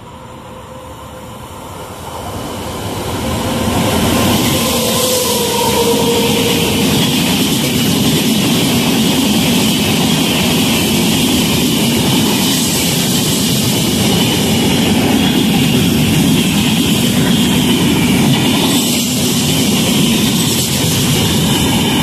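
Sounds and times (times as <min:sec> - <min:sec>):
train wheels clattering on rails: 0:02.4 - 0:22.0.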